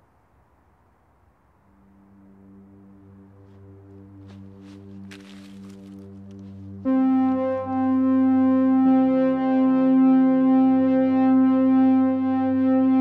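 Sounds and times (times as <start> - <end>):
sustained synthesizer chords: 1.5 - 13.0.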